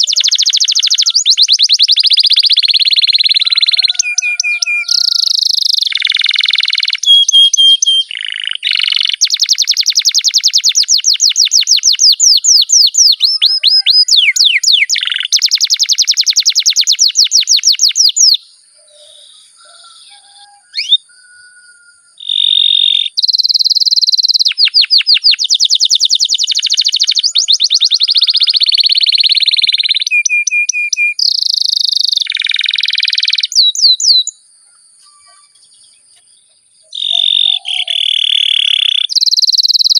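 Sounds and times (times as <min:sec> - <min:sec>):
canary singing trills: 0:00.0 - 0:39.9
faint bird chirps: 0:00.0 - 0:39.9.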